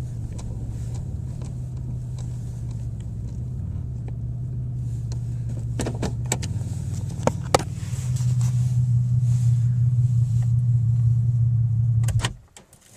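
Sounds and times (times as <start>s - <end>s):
car engine droning: 0.0s - 12.4s.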